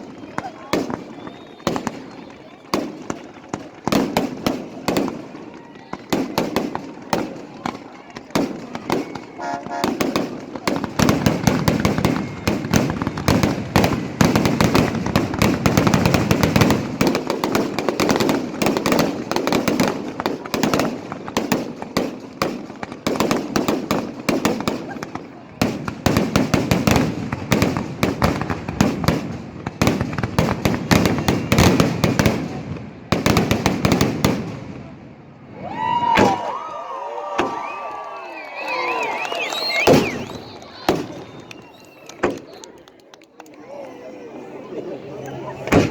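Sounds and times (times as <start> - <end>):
fireworks bangs and crackles: 0.0 - 36.6, 37.3 - 43.5, 45.2 - 45.9.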